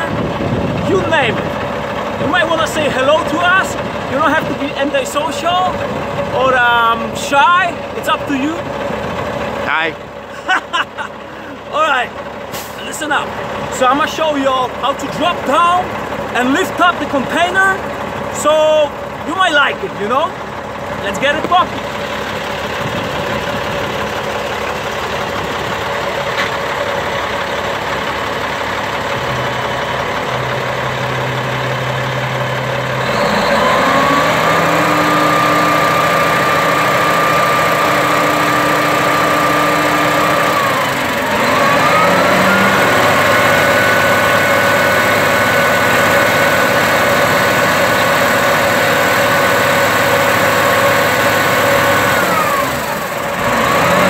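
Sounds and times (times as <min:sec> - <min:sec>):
truck diesel engine revving: 0:00.0 - 0:54.0.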